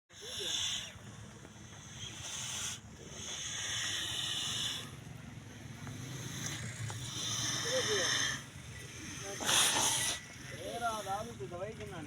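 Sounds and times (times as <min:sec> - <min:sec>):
cow breathing noisily: 0:00.1 - 0:12.0.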